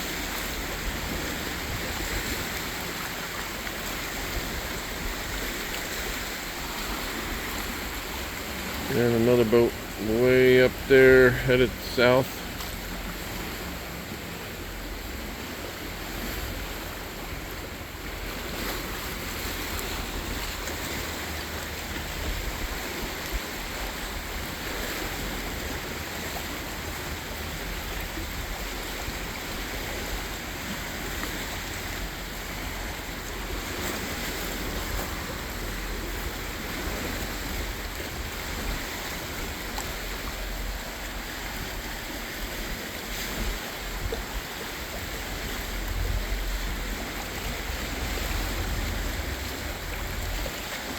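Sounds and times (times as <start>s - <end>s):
choppy water sloshing: 0.0s - 50.9s
wind: 0.0s - 50.9s.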